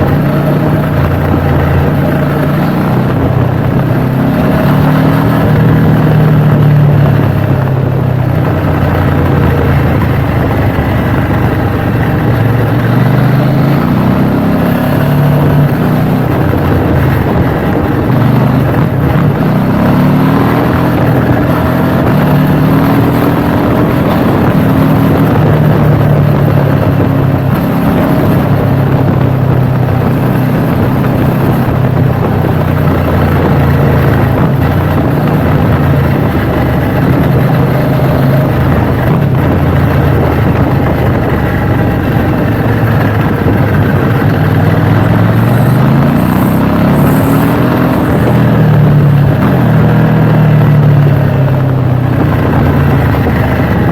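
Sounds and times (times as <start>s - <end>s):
motorcycle engine running: 0.0s - 53.9s
steady rush of noise: 0.0s - 53.9s.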